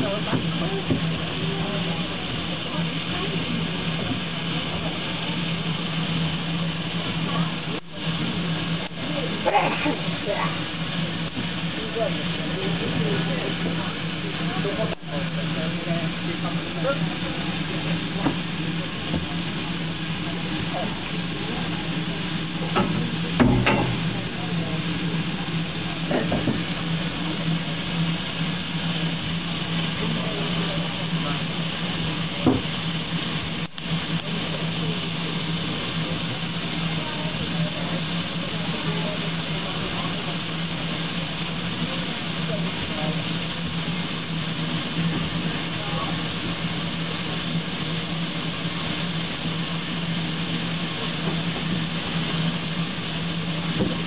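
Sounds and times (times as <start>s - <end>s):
low hum: 0.0s - 54.0s
steam locomotive hissing: 0.0s - 54.0s.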